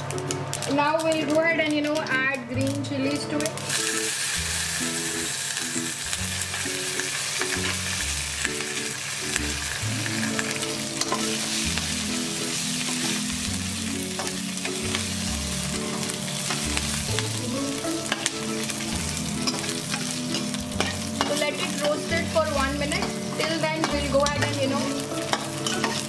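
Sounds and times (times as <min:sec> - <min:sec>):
seeds sizzling in hot oil: 0:00.0 - 0:26.0
soft background music: 0:00.0 - 0:26.0.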